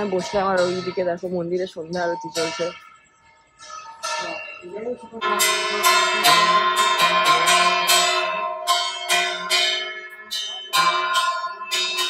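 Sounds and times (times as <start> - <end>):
temple bells ringing: 0.0 - 12.0.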